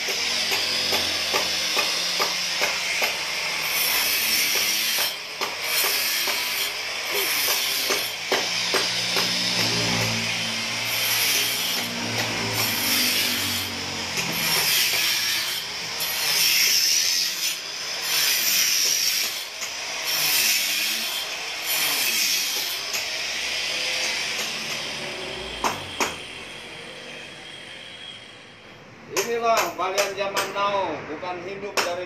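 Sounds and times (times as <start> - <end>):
angle grinder cutting concrete: 0.0 - 28.4.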